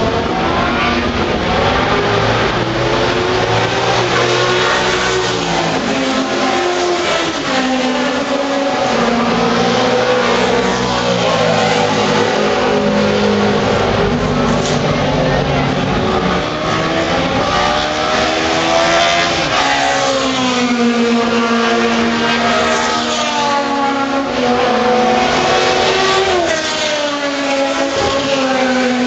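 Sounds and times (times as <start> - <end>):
racing car engines passing: 0.0 - 29.0.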